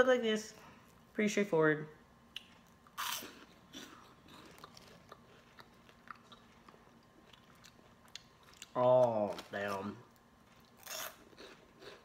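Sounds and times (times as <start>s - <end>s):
person crunching a snack: 2.4s - 12.0s.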